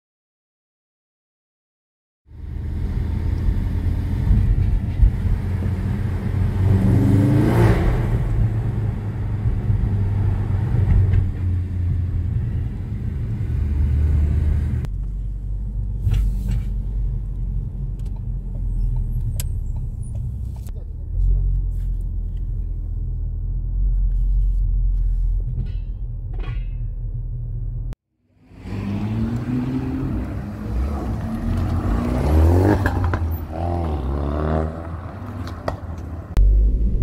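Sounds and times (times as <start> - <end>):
car engine rumble: 2.3 - 37.0.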